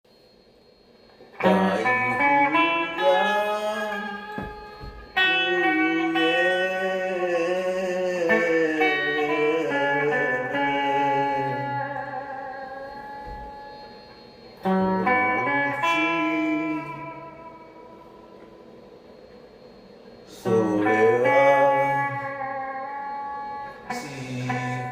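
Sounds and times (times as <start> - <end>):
bending guitar notes: 1.3 - 18.9, 20.3 - 24.9.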